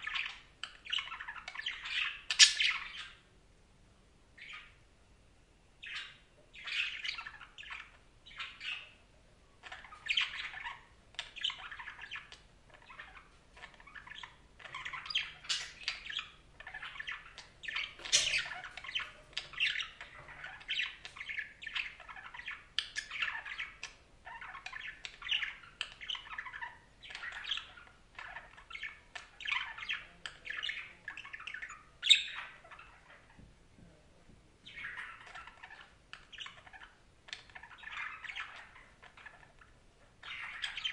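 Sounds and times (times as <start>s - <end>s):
budgerigars chattering: 0.0s - 3.2s, 9.6s - 33.3s, 34.7s - 40.9s.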